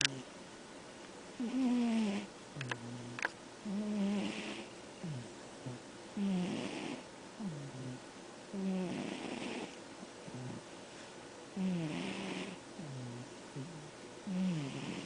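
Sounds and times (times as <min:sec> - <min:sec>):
pet snoring: 0:01.4 - 0:10.7, 0:11.6 - 0:15.0.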